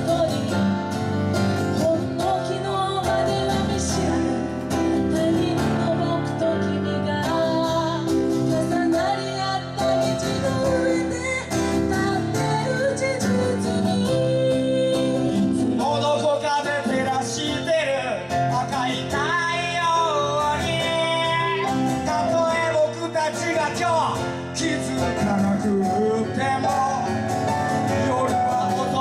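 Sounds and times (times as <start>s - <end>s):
woman and man singing duet: 0.0s - 1.0s, 1.6s - 29.0s
acoustic guitar: 0.0s - 29.0s
piano: 0.0s - 29.0s.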